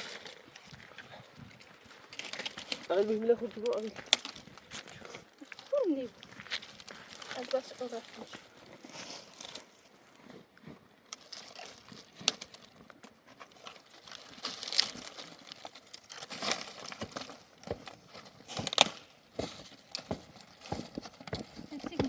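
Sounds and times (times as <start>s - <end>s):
rustling and crinkling: 0.0s - 22.0s.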